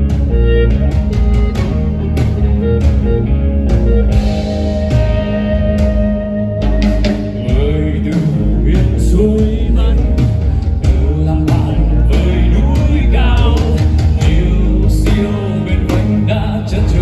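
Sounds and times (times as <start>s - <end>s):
wavering melody line: 0.0s - 15.9s
rock band playing live: 0.0s - 17.0s.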